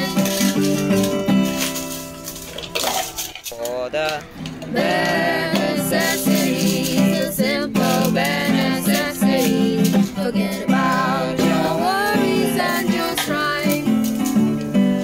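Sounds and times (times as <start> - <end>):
upbeat song with plucked guitar: 0.0 - 15.0.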